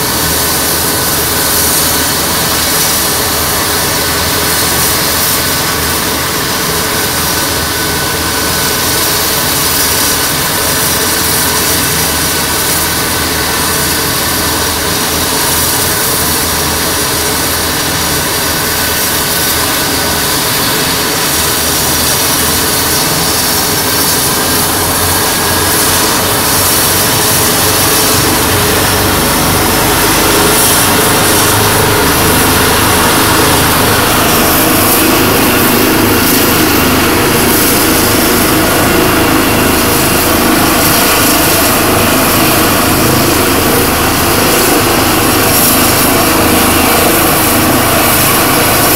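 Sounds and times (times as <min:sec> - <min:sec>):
helicopter rotor rushing: 0:00.0 - 0:48.9
helicopter turbine whine: 0:00.0 - 0:48.9.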